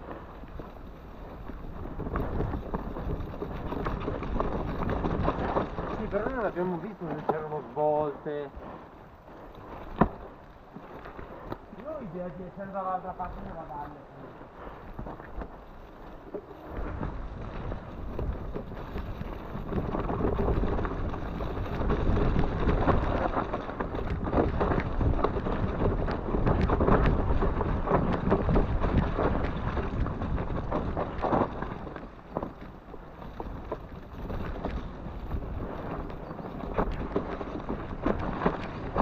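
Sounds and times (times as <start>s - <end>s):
wind on microphone: 0.0s - 12.4s, 13.1s - 39.0s
bike knocking and rattling: 0.0s - 39.0s
bike tyre noise: 0.0s - 39.0s.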